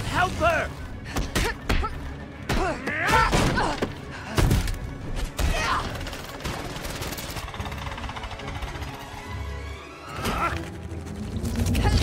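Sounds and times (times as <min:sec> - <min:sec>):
film score: 0:00.0 - 0:12.0.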